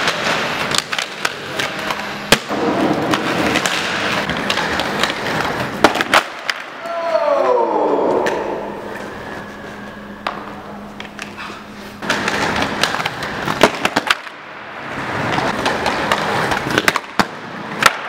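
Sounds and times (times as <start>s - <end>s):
skates clacking on edges: 0.0s - 7.5s, 10.2s - 18.0s
skate wheels rumbling on concrete: 0.0s - 18.0s.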